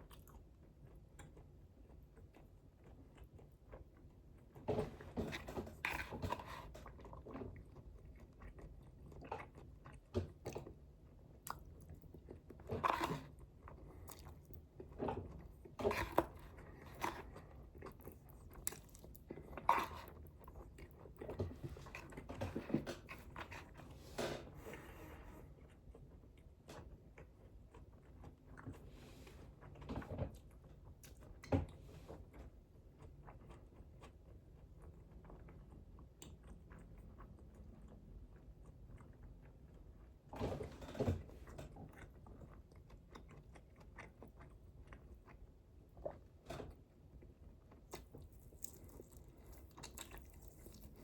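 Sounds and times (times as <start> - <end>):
person chewing food: 0.0 - 24.0, 24.8 - 40.3, 41.2 - 51.0.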